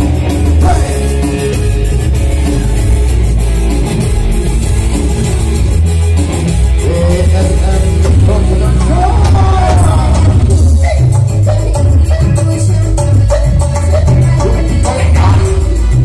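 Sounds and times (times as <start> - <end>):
dance music on keyboard: 0.0 - 16.0.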